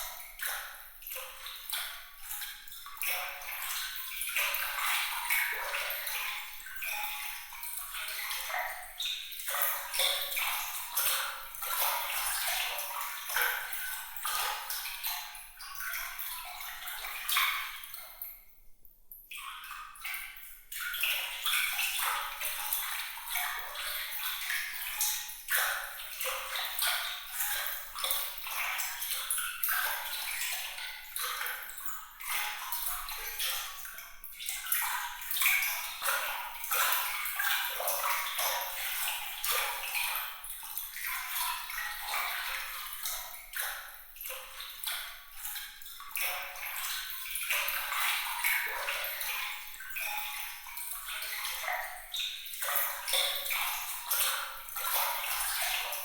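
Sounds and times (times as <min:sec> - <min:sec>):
water trickling and splashing: 0:00.0 - 0:18.6, 0:19.2 - 0:56.0.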